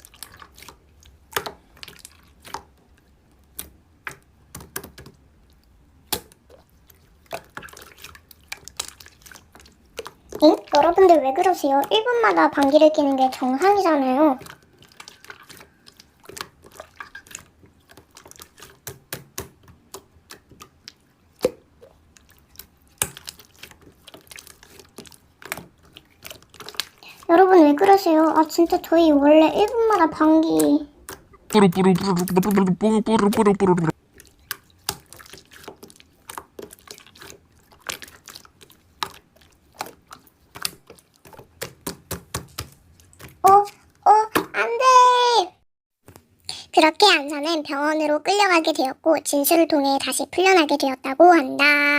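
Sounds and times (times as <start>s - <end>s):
slime squishing with wet pops: 0.0s - 45.0s.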